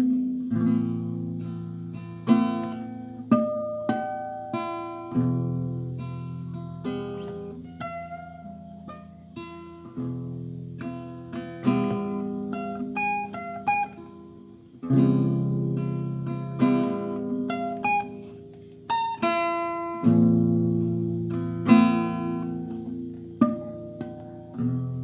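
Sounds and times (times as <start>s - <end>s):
acoustic guitar played slowly: 0.0s - 25.0s.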